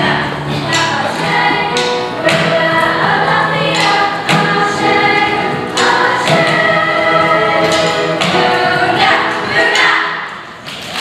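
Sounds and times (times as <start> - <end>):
children's choir singing: 0.0 - 10.6.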